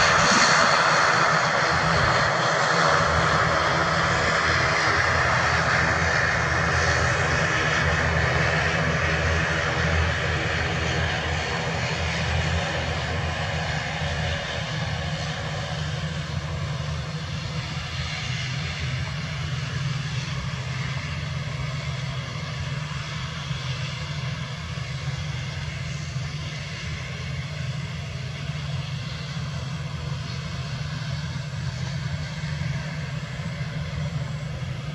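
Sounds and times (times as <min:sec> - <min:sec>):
engine whine: 0:00.0 - 0:34.9
turboprop engines droning: 0:00.0 - 0:34.9.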